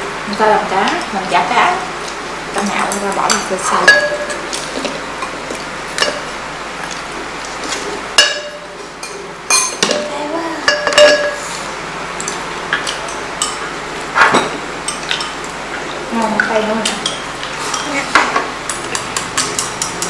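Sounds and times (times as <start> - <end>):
utensils clinking against dishes: 0.3 - 20.0.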